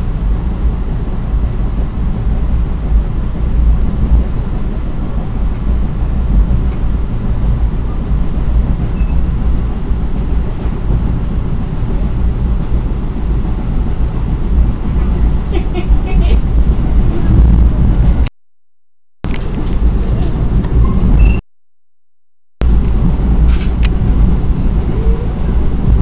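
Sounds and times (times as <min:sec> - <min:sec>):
train rumble from inside coach: 0:00.0 - 0:18.3, 0:19.2 - 0:21.4, 0:22.6 - 0:26.0.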